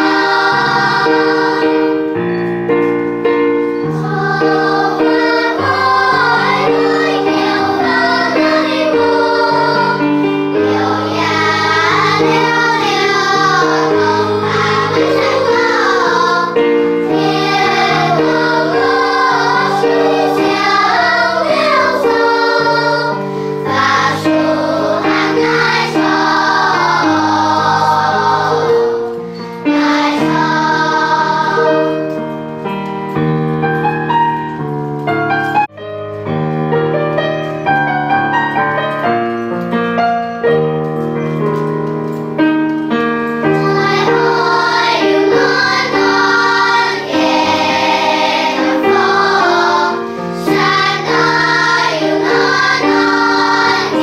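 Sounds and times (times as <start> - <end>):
children's choir singing: 0.0 - 32.8, 43.2 - 54.0.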